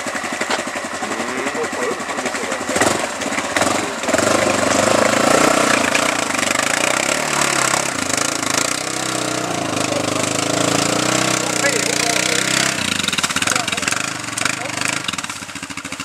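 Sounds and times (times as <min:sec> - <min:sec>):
quad engine revving: 0:00.0 - 0:16.0
wheels churning mud and water: 0:00.0 - 0:16.0.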